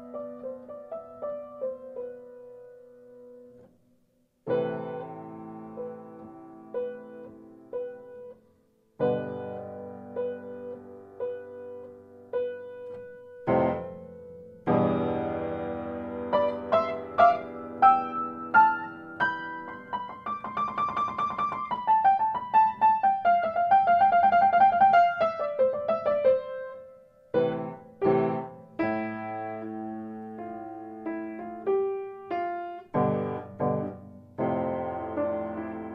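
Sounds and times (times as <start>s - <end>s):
solo piano music: 0.0s - 35.9s.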